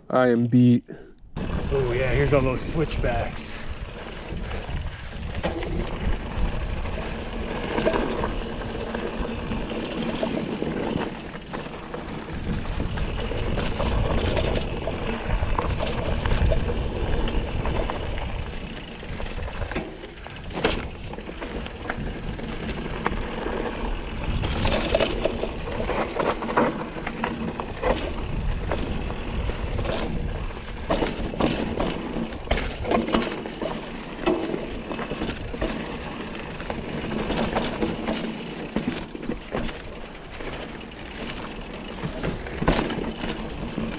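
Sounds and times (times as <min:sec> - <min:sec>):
bike frame and chain rattling: 0:01.4 - 0:43.9
bike tyres crunching over rock: 0:01.4 - 0:43.9.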